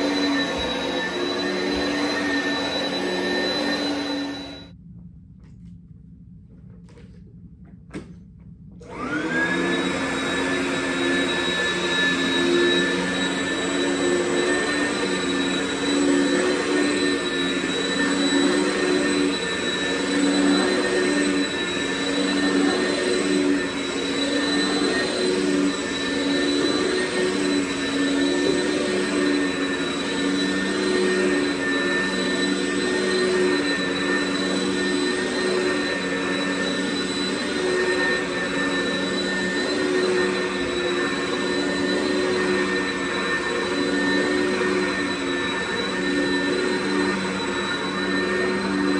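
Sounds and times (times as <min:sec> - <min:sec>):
vacuum cleaner whining: 0:00.0 - 0:04.8, 0:08.7 - 0:48.9.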